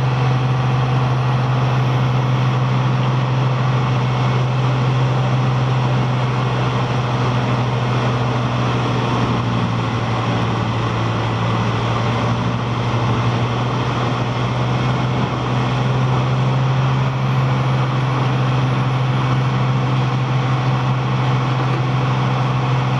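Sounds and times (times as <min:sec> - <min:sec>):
wood chipper engine drone: 0:00.0 - 0:22.9.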